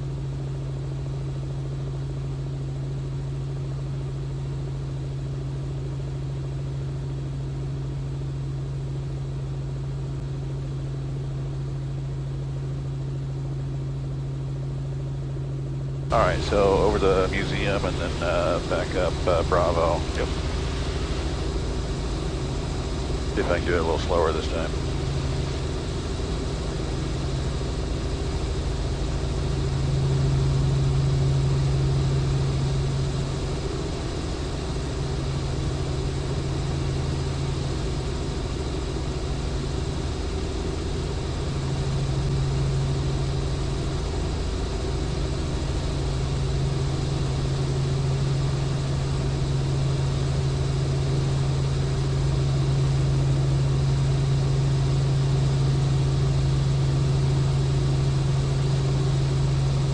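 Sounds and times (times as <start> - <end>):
helicopter engine and rotors drone: 0.0 - 59.9.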